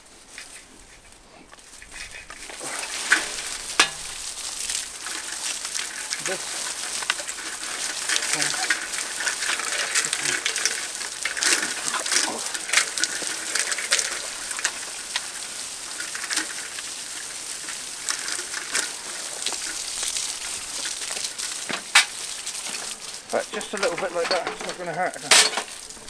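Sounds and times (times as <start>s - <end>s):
water gushing and splashing: 0.0s - 26.0s.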